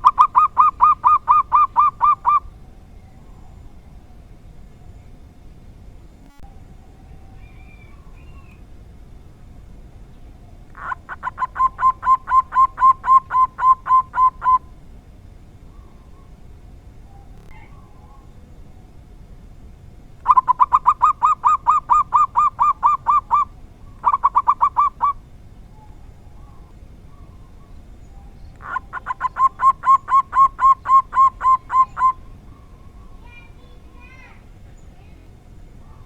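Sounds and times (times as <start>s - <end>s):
dove cooing: 0.0s - 5.3s, 10.4s - 19.0s, 20.2s - 36.0s.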